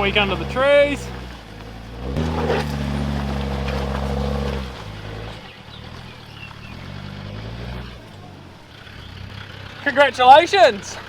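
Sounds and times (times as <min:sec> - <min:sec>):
vehicle engine running under load: 0:00.0 - 0:11.0.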